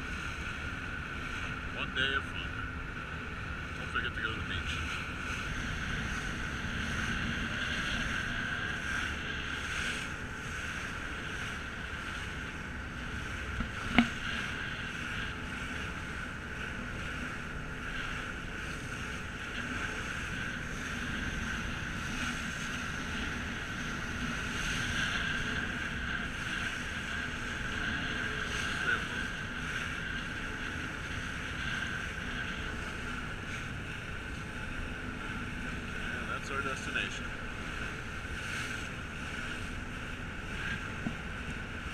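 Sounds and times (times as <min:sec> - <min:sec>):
ferry engine drone: 0:00.0 - 0:41.9
wind: 0:00.0 - 0:41.9.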